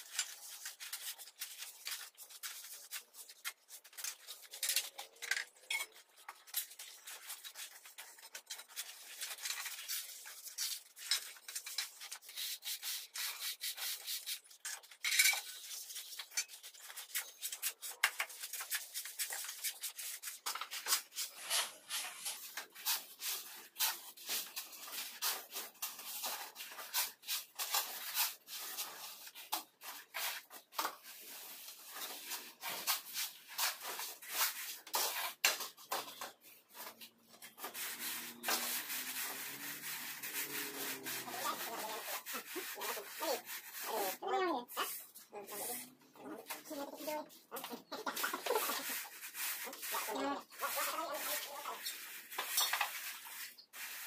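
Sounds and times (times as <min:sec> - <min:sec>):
trowel scraping mortar: 0:00.0 - 0:54.0.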